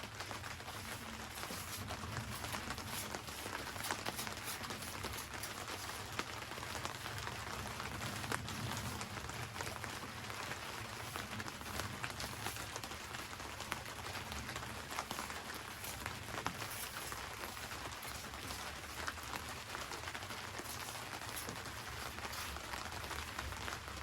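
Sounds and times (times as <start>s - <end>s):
raindrops ticking on roof: 0.0s - 24.0s
steady rain: 0.0s - 24.0s.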